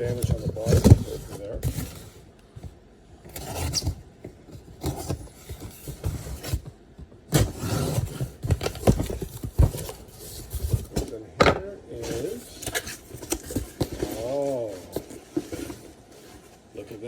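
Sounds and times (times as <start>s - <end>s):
cardboard scraping and rubbing: 0.0s - 11.2s, 11.9s - 17.0s.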